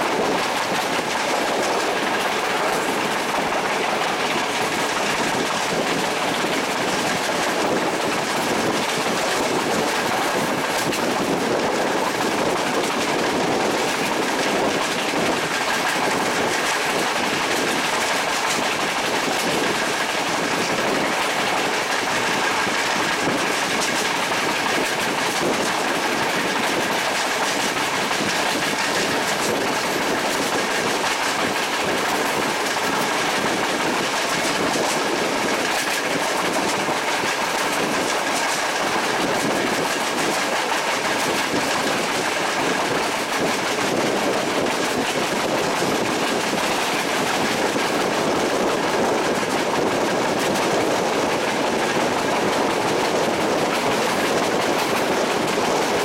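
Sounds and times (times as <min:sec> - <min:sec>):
train wheels clattering: 0:00.0 - 0:56.0.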